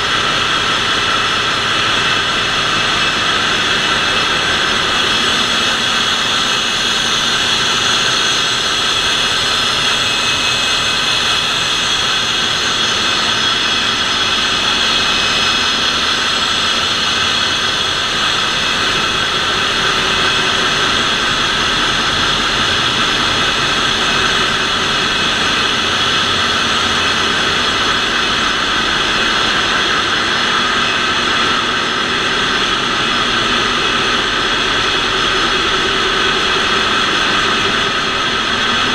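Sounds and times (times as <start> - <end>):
constant high whine: 0.0 - 38.9.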